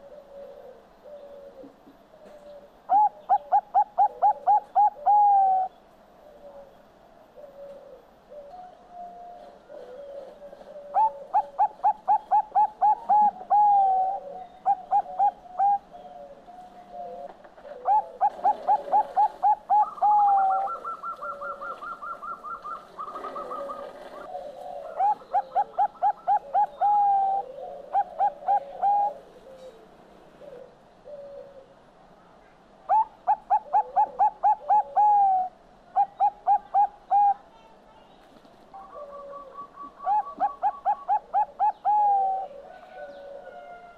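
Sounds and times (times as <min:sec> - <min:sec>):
dove cooing: 0:00.0 - 0:06.8, 0:07.4 - 0:31.8, 0:32.9 - 0:37.7, 0:38.7 - 0:43.9.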